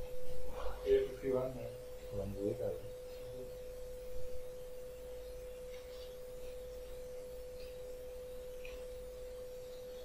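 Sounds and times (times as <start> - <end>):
low hum: 0.0 - 10.0
steady single-pitched whine: 0.0 - 10.0.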